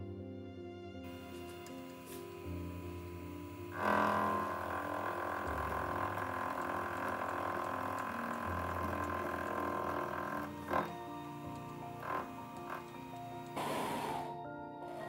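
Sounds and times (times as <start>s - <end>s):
background music: 0.0s - 15.0s
milling machine cutting metal: 1.1s - 15.0s.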